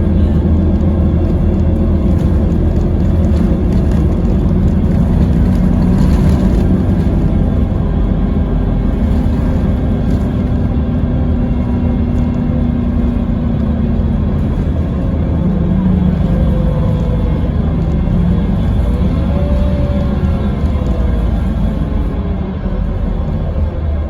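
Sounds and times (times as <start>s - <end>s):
coach engine drone: 0.0s - 24.0s
road noise: 0.0s - 24.0s.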